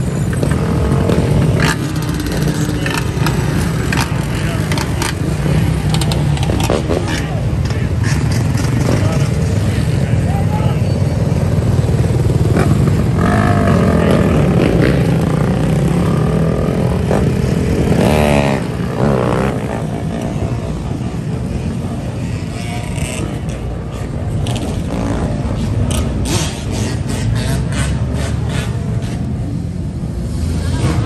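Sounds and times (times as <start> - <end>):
dirt bike and quad engines: 0.0 - 31.0.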